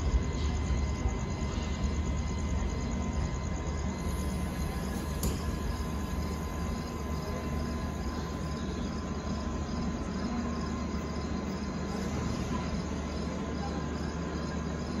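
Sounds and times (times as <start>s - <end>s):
crickets chirping: 0.0s - 15.0s
train coaches rolling rumble: 0.0s - 15.0s.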